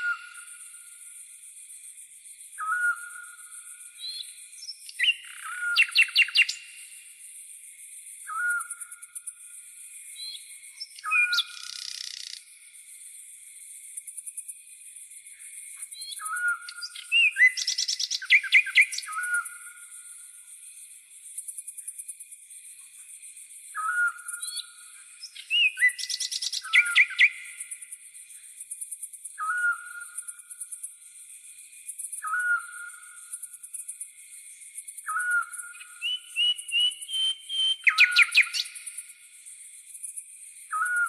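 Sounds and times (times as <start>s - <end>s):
crickets chorus: 0.0s - 41.0s.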